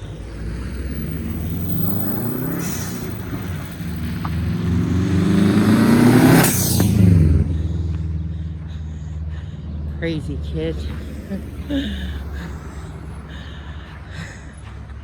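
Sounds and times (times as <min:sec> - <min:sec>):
car engine revving past: 0:00.0 - 0:08.7, 0:09.6 - 0:14.1
low rumble: 0:00.0 - 0:14.6.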